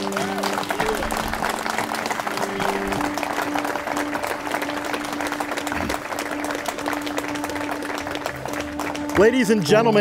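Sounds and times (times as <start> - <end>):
crowd clapping: 0.0 - 10.0
music playing: 0.0 - 10.0.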